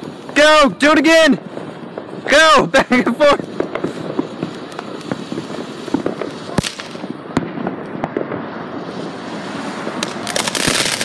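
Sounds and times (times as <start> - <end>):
firework crackling hiss: 0.0 - 11.0
sharp firework pops: 1.4 - 2.4, 3.2 - 11.0.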